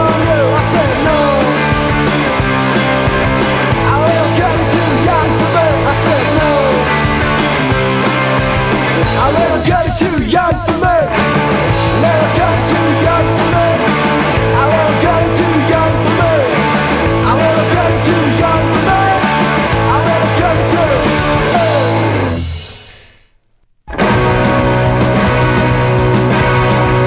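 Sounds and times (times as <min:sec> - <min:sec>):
low bass: 0:00.0 - 0:09.6, 0:11.2 - 0:22.6, 0:23.9 - 0:27.0
electric guitar: 0:00.0 - 0:23.0, 0:23.9 - 0:27.0
rock band playing: 0:00.0 - 0:23.0, 0:23.9 - 0:27.0.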